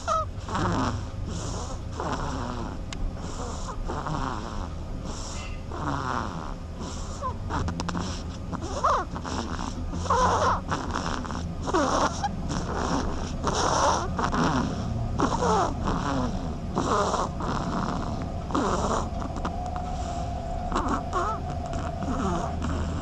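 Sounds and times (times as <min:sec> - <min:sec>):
duck snoring: 0:00.0 - 0:23.0.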